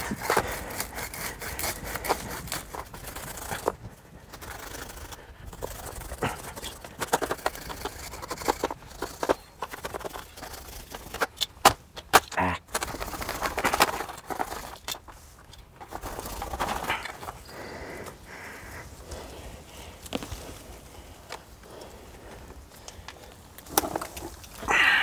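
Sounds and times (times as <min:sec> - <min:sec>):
hand tool scraping wet soil: 0:00.0 - 0:11.5, 0:12.7 - 0:25.0.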